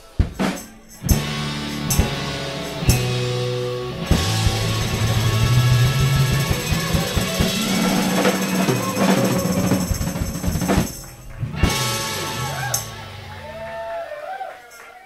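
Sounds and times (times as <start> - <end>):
live rock band playing: 0.0 - 13.8
electric guitar: 0.0 - 15.0
rapid drum hits: 0.2 - 12.9.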